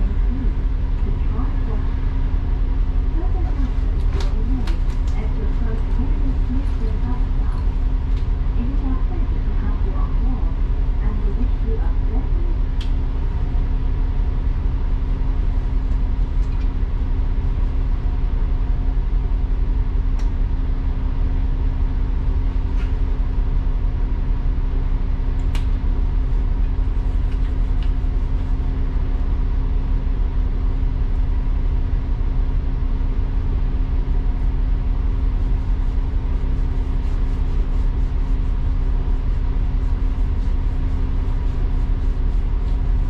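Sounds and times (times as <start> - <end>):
bus engine and road rumble: 0.0 - 43.0
constant hum: 0.0 - 43.0.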